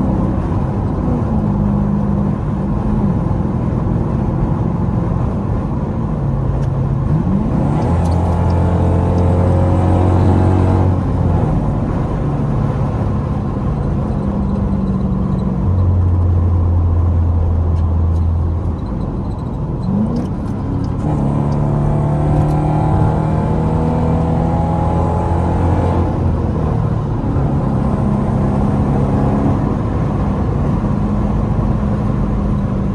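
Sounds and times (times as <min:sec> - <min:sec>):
car exhaust drone: 0:00.0 - 0:32.9.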